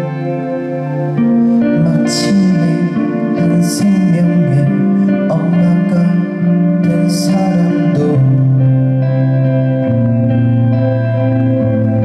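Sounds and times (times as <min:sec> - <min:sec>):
live band playing slow song: 0:00.0 - 0:12.0.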